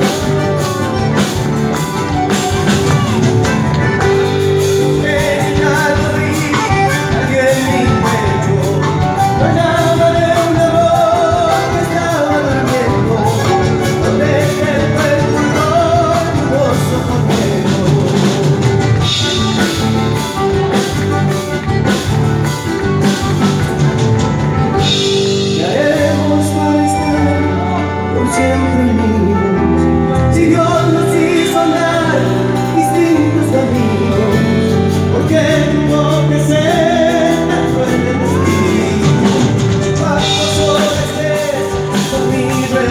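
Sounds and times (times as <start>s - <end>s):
guitars and bass: 0.0s - 42.9s
man singing lead: 0.0s - 42.9s.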